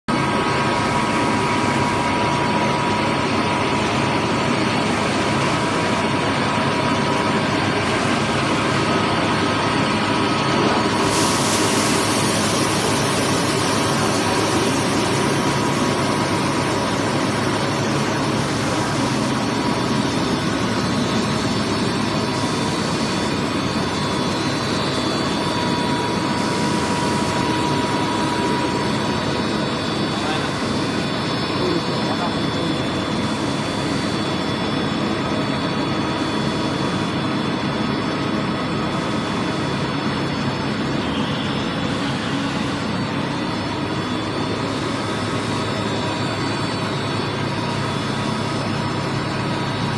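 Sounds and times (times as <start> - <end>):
extrusion machinery running: 0.1 - 49.9.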